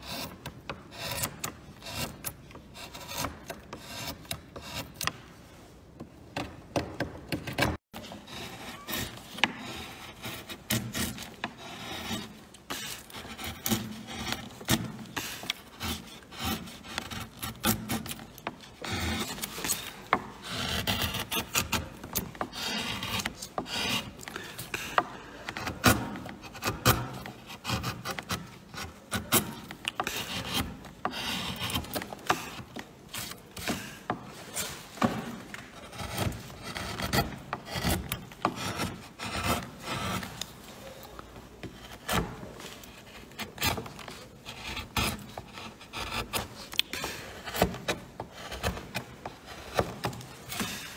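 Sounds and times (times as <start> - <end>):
carving gouge cutting wood: 0.0 - 5.2, 6.4 - 50.9.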